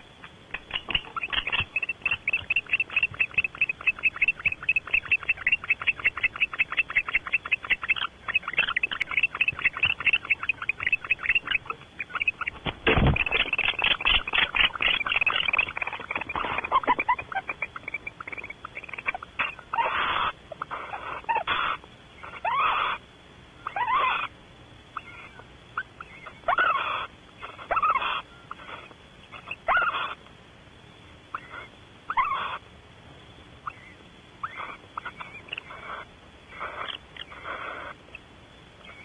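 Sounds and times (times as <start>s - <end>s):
owls calling: 0.0s - 23.0s, 23.6s - 24.4s, 25.0s - 30.2s, 31.3s - 32.7s, 33.6s - 38.2s, 38.8s - 39.0s.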